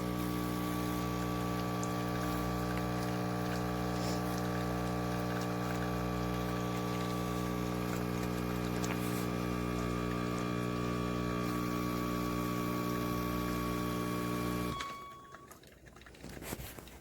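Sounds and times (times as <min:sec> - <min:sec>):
espresso machine pump humming: 0:00.0 - 0:15.5.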